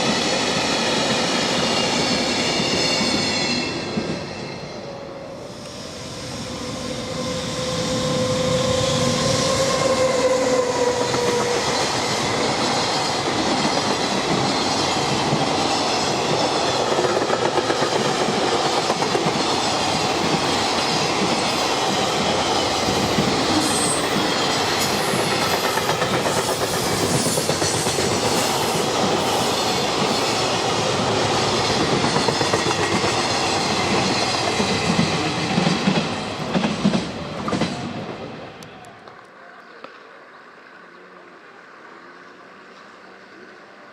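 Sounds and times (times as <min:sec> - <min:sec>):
freight train rumbling past: 0:00.0 - 0:39.1.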